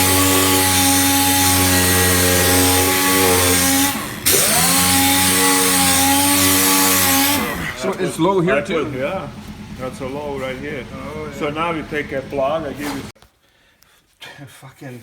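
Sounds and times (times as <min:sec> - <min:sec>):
power sander running: 0:00.0 - 0:13.2.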